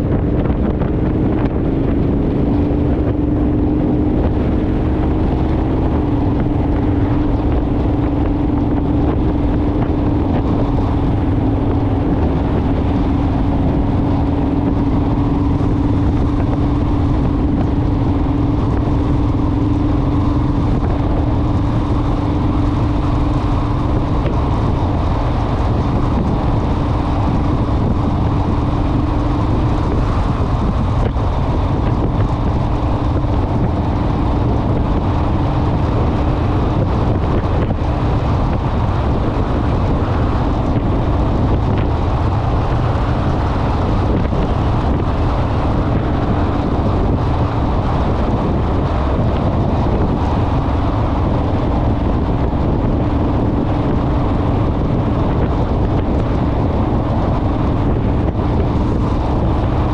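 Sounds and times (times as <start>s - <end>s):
motorcycle engine cruising: 0.0s - 59.9s
wind noise on microphone: 0.0s - 59.9s.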